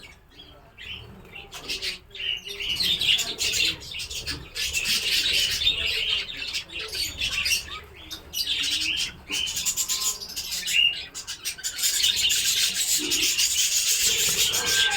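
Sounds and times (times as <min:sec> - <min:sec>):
budgerigars chirping and chattering: 0:00.0 - 0:14.9.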